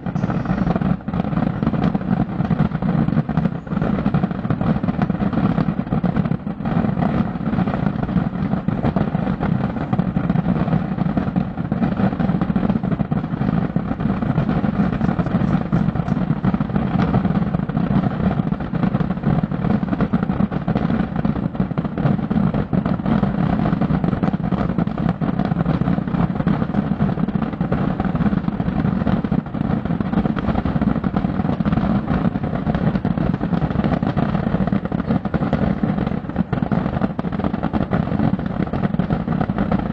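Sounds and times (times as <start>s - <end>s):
distant fireworks rumble: 0.0s - 39.9s
fireworks crackle: 0.0s - 39.9s.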